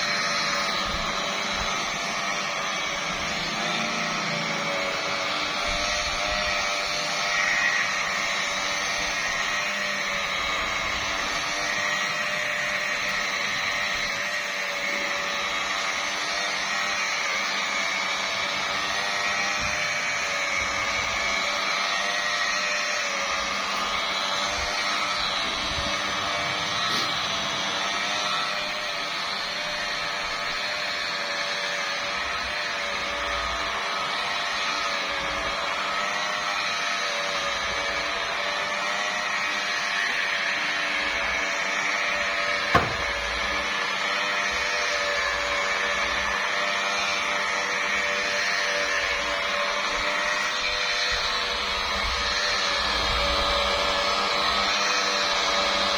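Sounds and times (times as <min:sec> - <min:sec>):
car polisher motor whine: 0:00.0 - 0:55.9.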